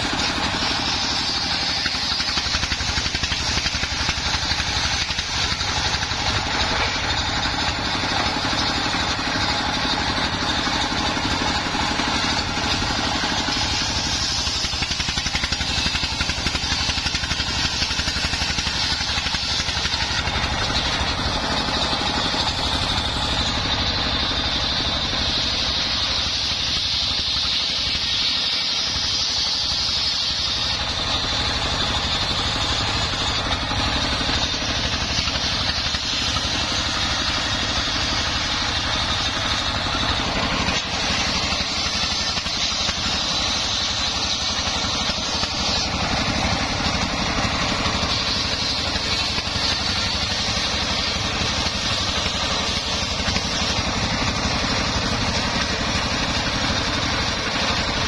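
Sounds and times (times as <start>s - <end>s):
diesel engine running: 0.0s - 58.0s
saw blade cutting log: 0.0s - 58.0s.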